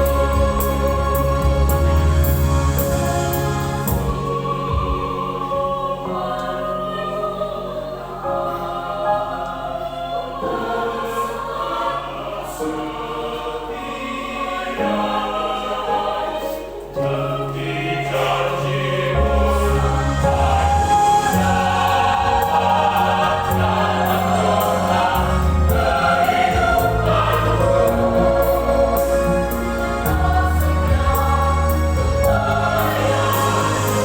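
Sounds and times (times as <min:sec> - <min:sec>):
choir singing a hymn: 0:00.0 - 0:34.0.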